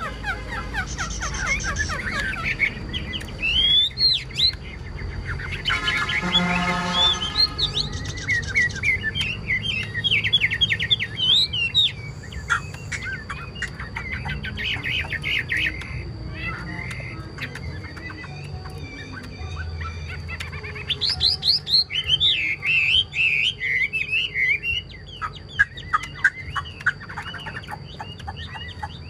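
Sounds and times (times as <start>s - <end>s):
bird singing with high whistles: 0.0s - 29.0s.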